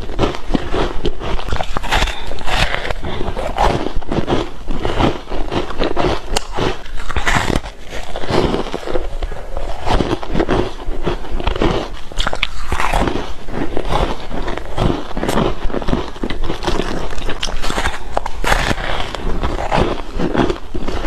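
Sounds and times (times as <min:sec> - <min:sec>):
ice being crunched: 0:00.0 - 0:21.0.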